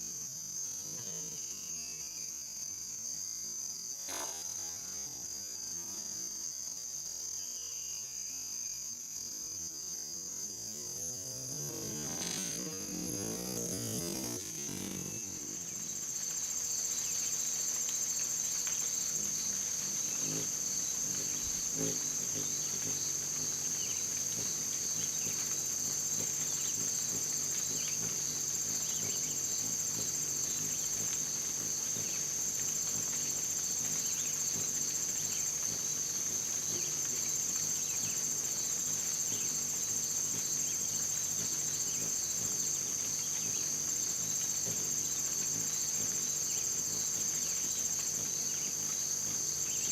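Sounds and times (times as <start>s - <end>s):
high-pitched insect chorus: 0.0s - 49.9s.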